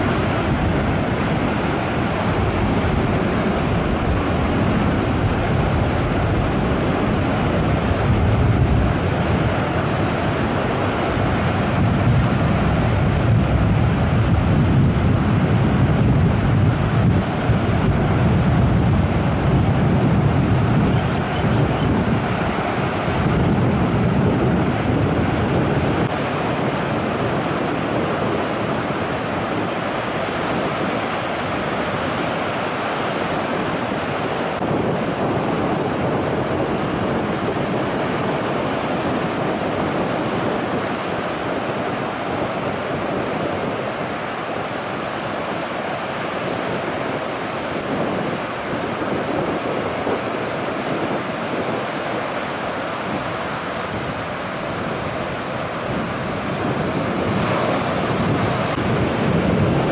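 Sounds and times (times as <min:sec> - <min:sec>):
surf breaking on shore: 0:00.0 - 0:59.9
wind on microphone: 0:00.0 - 0:59.9.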